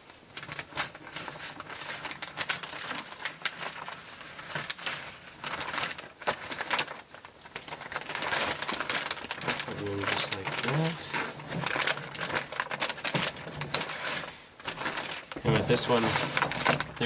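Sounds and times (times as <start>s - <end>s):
crackles and clicks: 0.1s - 17.0s
plastic bag crinkling: 0.2s - 17.0s.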